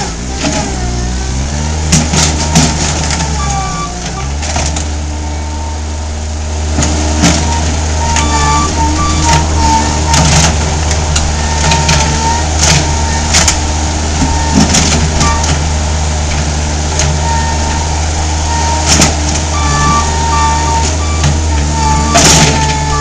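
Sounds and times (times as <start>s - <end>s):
machine clunks and scrapes: 0.0s - 5.8s, 6.7s - 23.0s
skid steer engine running: 0.0s - 23.0s.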